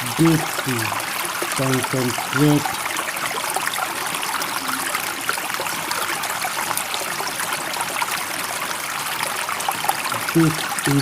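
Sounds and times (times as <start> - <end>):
water trickling and babbling: 0.0 - 11.0.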